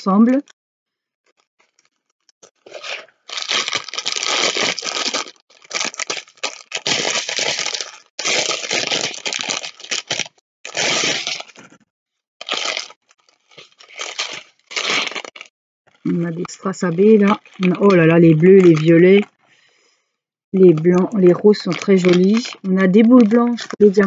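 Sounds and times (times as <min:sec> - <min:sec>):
plastic bag crinkling: 0:01.4 - 0:11.8, 0:12.4 - 0:19.4, 0:20.6 - 0:24.0.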